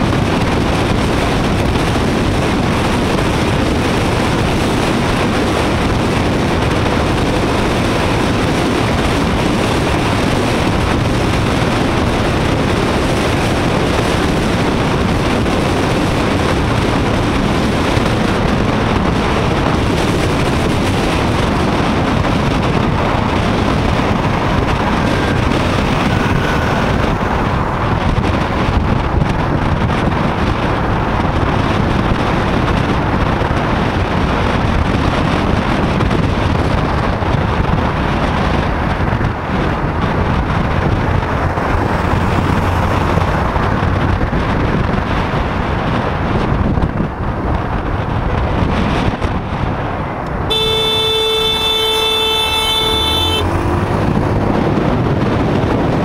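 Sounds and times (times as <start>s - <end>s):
motorcycle engine: 0.0s - 32.7s, 40.0s - 45.8s, 48.7s - 56.0s
road noise: 0.0s - 56.0s
wind buffeting microphone: 0.0s - 56.0s.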